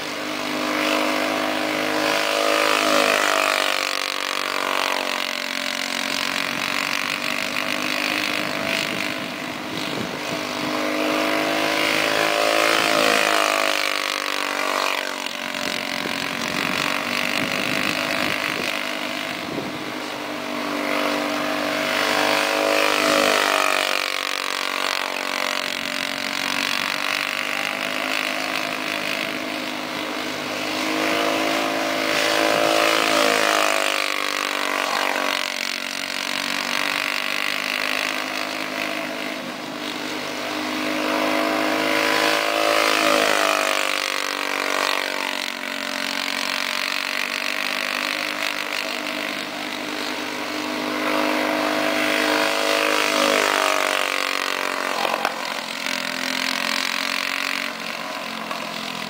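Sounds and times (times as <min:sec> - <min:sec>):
kart engine running: 0:00.0 - 0:59.0.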